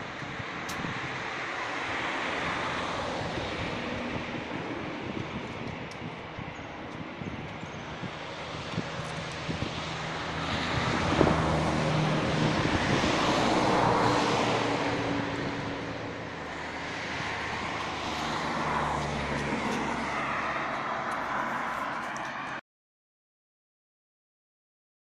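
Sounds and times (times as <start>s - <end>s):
passing motor traffic: 0.0s - 22.6s.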